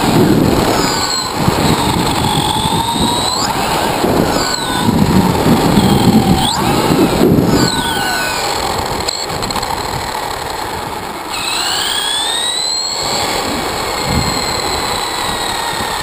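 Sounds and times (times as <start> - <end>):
buggy rumbling and rattling on pavement: 0.0 - 16.0
electric motor whining: 0.0 - 16.0.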